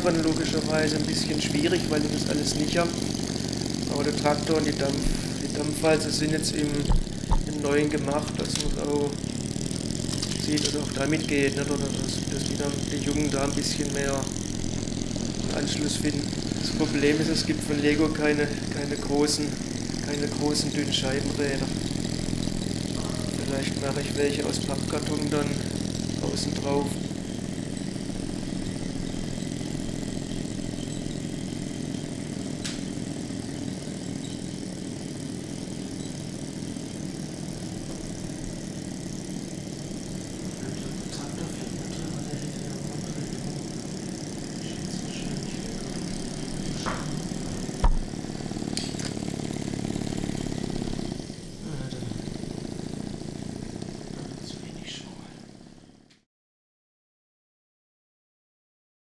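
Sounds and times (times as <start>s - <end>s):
small engine mechanical whirr: 0.0s - 56.2s.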